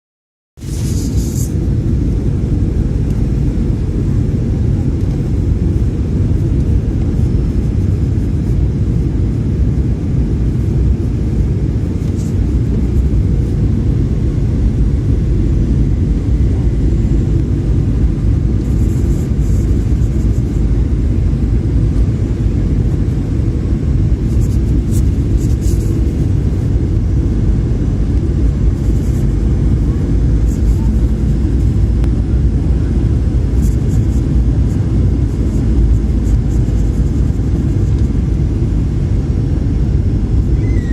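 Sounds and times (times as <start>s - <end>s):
airplane cabin engine rumble: 0.6s - 40.9s.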